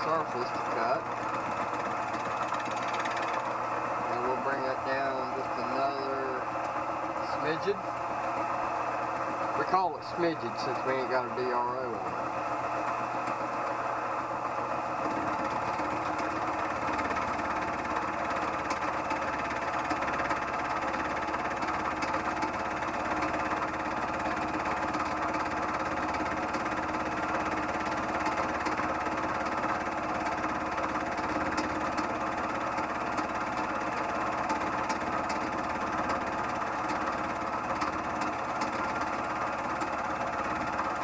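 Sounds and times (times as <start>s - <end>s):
fast low rattle of cutter: 0.0s - 13.8s, 15.0s - 41.0s
machine motor hum: 0.0s - 41.0s.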